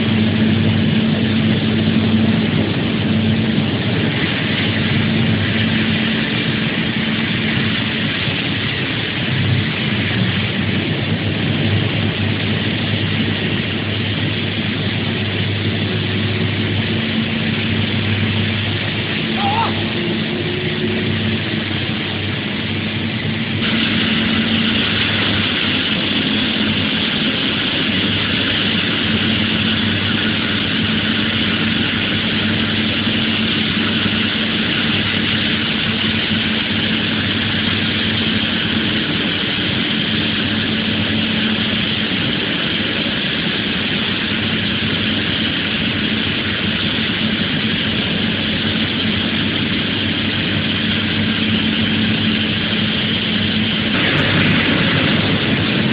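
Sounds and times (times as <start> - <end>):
machine engine humming: 0.0 - 55.9.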